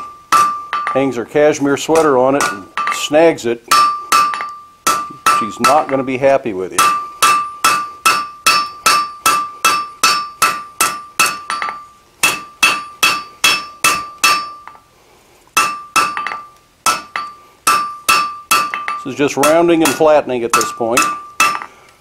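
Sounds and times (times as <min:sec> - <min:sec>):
hammer striking metal on anvil: 0:00.0 - 0:01.1, 0:01.9 - 0:06.1, 0:06.8 - 0:14.8, 0:15.6 - 0:21.8.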